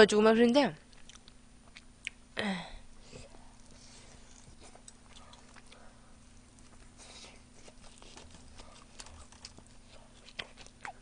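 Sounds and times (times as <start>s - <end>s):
close-miked chewing: 0.8s - 2.2s, 3.1s - 11.0s.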